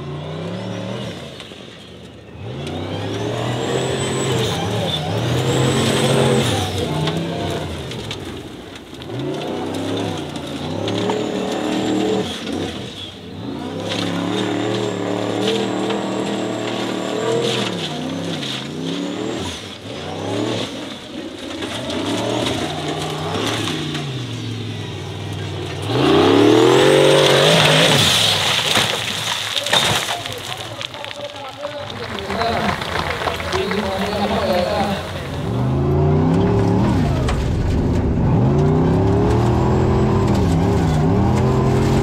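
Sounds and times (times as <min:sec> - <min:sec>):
buggy engine revving hard: 0:00.0 - 0:28.9, 0:32.5 - 0:42.0.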